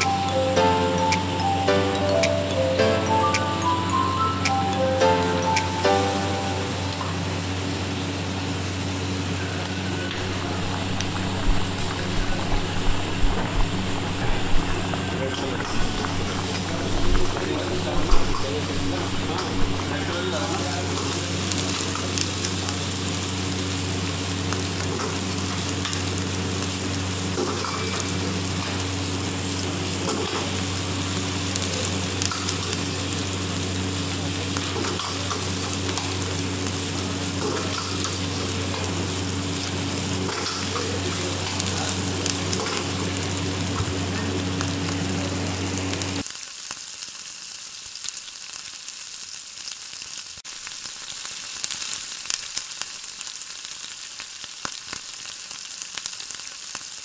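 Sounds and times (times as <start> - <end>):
gas burner humming: 0.0 - 46.3
mushrooms sizzling in a wok: 0.0 - 57.0.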